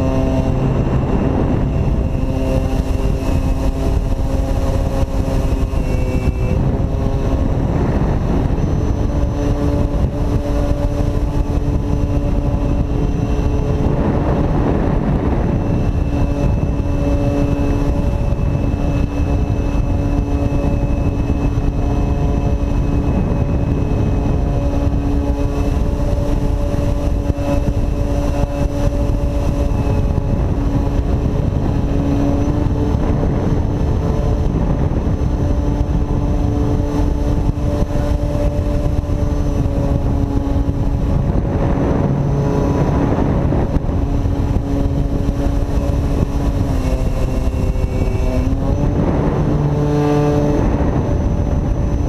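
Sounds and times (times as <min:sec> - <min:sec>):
electric motor and propeller whine: 0:00.0 - 0:52.0
wind rush on microphone: 0:00.0 - 0:52.0.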